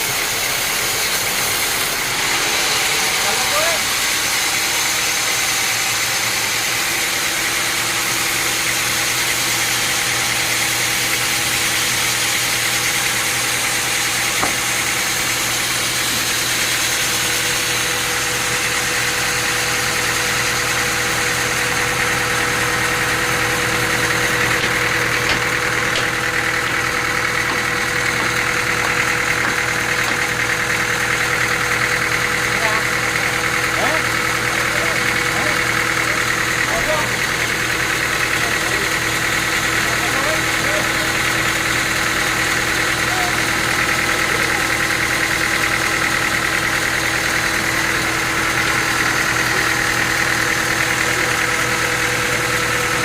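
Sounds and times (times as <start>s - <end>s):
sawmill machinery hum: 0.0s - 53.0s.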